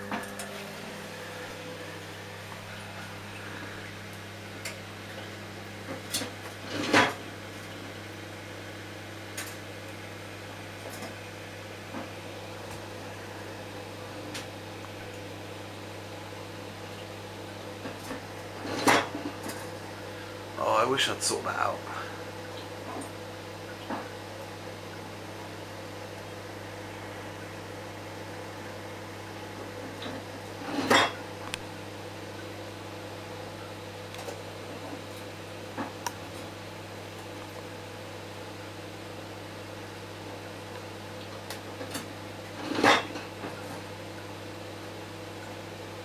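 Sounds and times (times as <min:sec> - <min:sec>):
microwave oven humming: 0:00.0 - 0:46.0.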